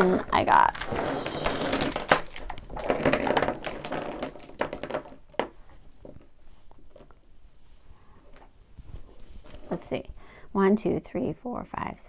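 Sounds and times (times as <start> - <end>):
rustling: 0.0 - 10.1.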